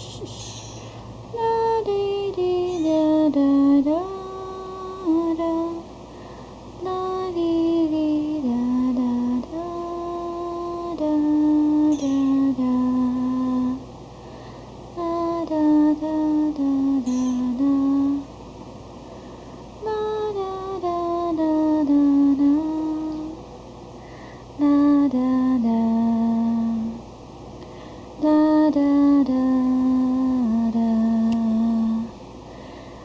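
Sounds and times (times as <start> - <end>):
woman singing wordless tune: 1.3 - 18.6, 19.6 - 23.5, 24.1 - 27.2, 27.8 - 32.8.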